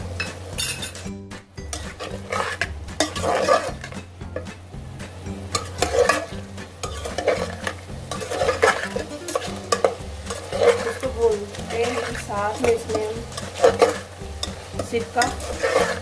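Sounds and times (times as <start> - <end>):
chicken sizzling in oil: 0.0 - 16.0
spatula scraping a pot: 1.7 - 4.5, 5.5 - 16.0.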